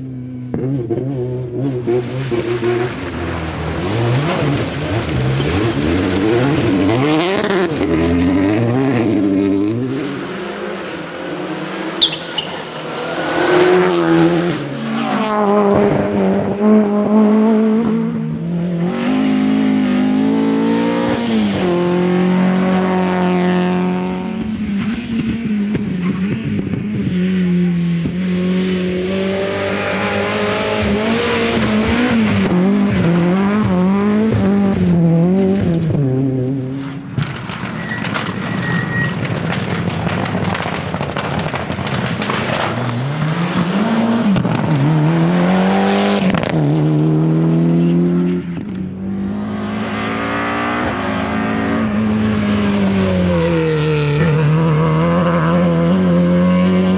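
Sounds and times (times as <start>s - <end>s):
rally car engines revving hard: 0.0s - 56.9s.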